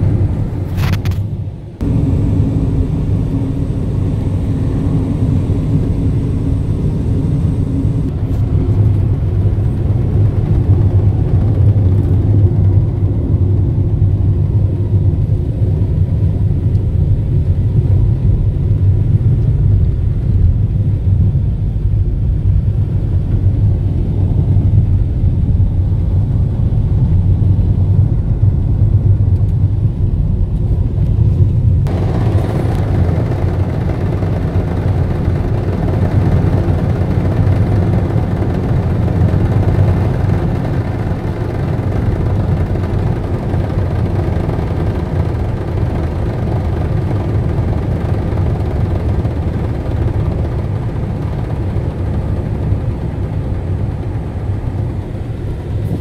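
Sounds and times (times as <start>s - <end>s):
car driving interior rumble: 0.0s - 15.7s, 23.5s - 56.0s.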